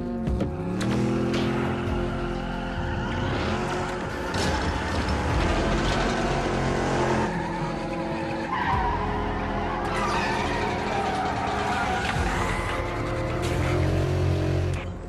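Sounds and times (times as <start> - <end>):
car engine running hard: 0.0 - 15.0
tyres screeching: 1.4 - 14.8.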